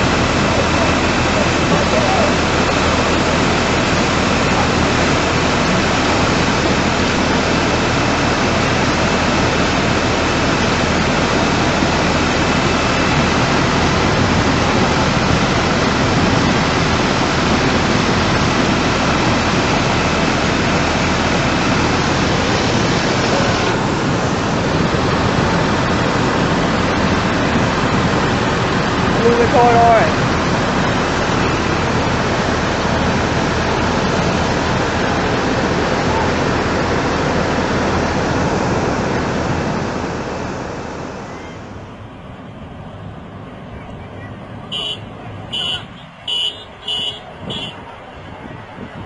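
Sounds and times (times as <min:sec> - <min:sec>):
floodwater rushing: 0:00.0 - 0:49.0.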